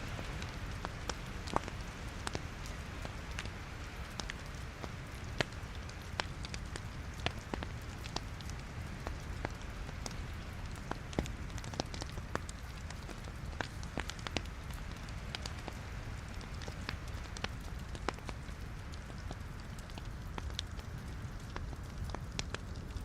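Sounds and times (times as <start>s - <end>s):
flames rumbling and hissing: 0.0s - 23.0s
logs crackling and popping: 0.0s - 23.0s.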